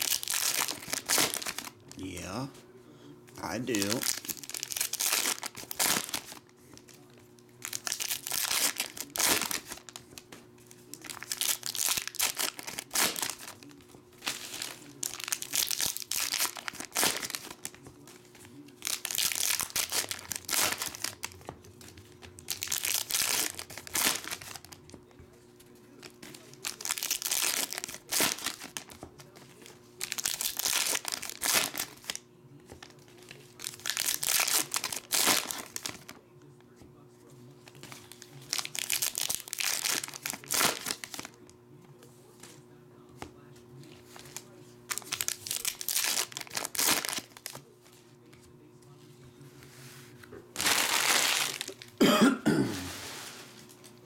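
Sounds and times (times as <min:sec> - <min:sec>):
foil wrappers crinkling and tearing: 0:00.0 - 0:02.3, 0:03.4 - 0:25.0, 0:25.8 - 0:36.2, 0:37.6 - 0:41.5, 0:43.8 - 0:48.1, 0:50.6 - 0:52.1.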